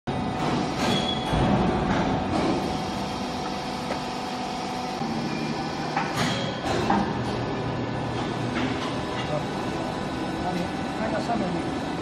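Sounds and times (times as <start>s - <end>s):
hydraulic unit humming: 0.1s - 12.0s.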